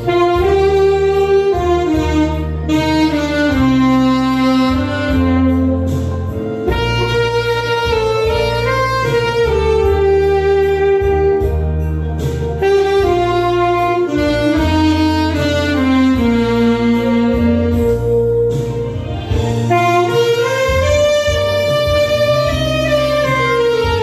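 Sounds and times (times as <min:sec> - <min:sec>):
saxophone ballad melody: 0:00.0 - 0:24.0
steady bass line: 0:00.0 - 0:24.0.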